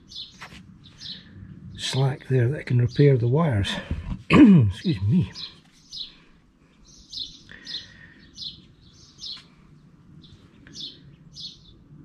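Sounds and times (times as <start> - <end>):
bird chirping: 0.0 - 3.9, 4.7 - 12.0.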